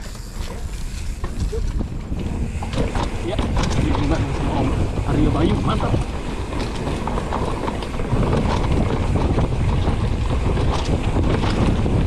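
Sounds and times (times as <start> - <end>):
bike rattling: 0.0 - 12.0
tyres rumbling on dirt: 0.0 - 12.0
wind buffeting microphone: 0.3 - 12.0.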